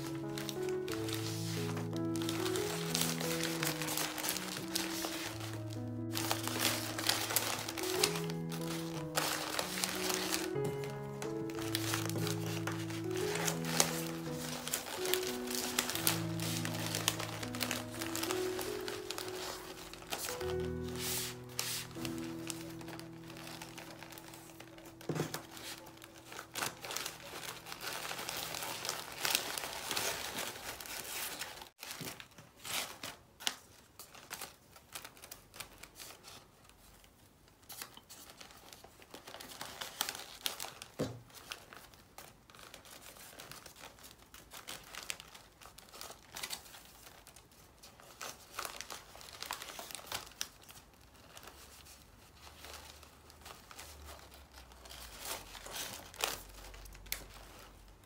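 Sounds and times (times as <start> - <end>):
wrapping paper crinkling: 0.0 - 58.0.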